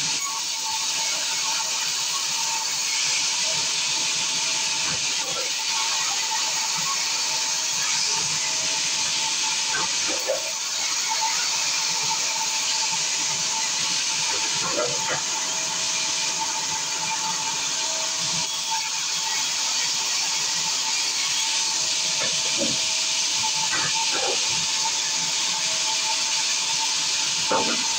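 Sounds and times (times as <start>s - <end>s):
band saw cutting wood: 0.5s - 27.9s.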